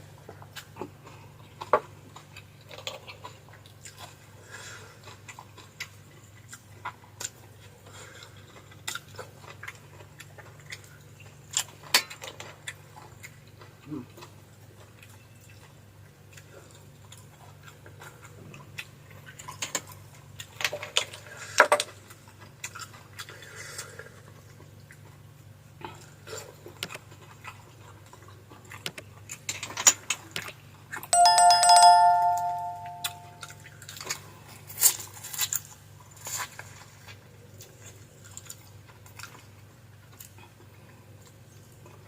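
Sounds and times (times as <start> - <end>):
chewing: 0.2 - 30.6, 33.6 - 42.0.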